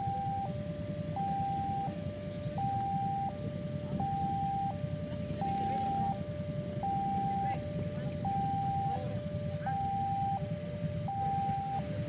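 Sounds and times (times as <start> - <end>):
level crossing two-tone warning siren: 0.0 - 12.0
steady low rumble: 0.0 - 12.0.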